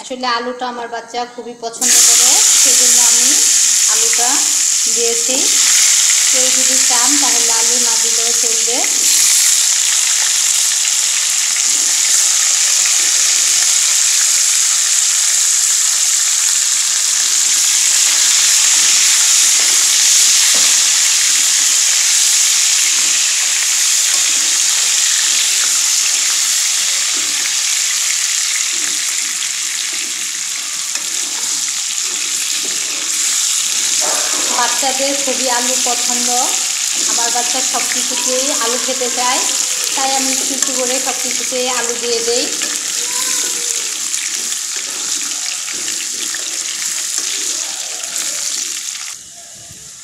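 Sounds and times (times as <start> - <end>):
potatoes sizzling in oil: 1.8 - 50.0.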